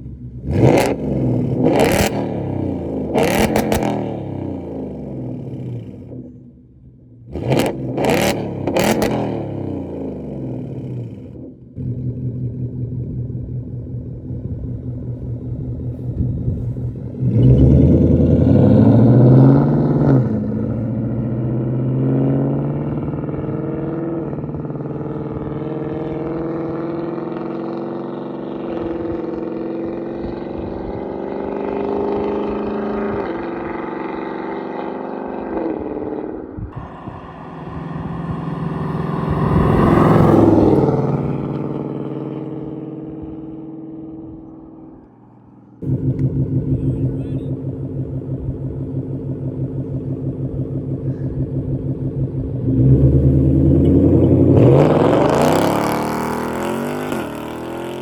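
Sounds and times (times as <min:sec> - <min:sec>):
car engine rumbling and accelerating: 0:00.0 - 0:58.0.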